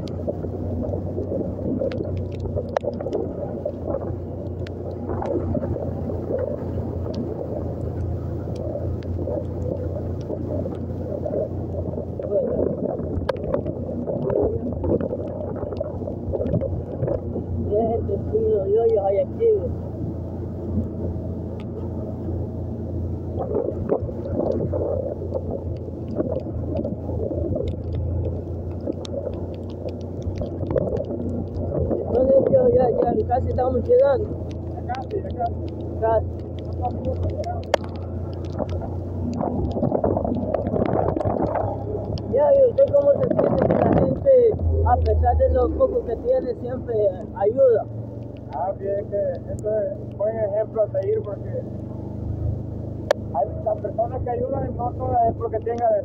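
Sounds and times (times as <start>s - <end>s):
clicks and knocks from rough road: 0.0s - 17.7s, 19.7s - 56.0s
motorcycle engine running: 0.0s - 56.0s.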